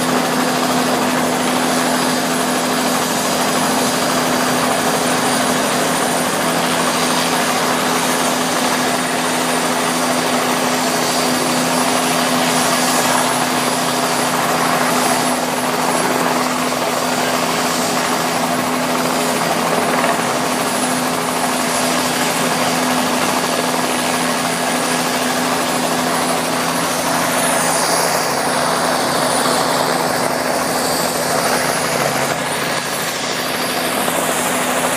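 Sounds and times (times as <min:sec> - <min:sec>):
helicopter turbine and rotor: 0:00.0 - 0:34.9.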